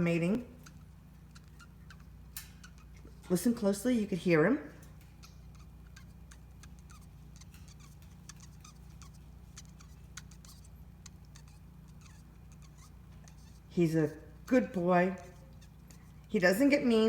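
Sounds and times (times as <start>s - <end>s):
parrot chirping and squeaking: 0.2s - 3.6s, 4.8s - 16.3s.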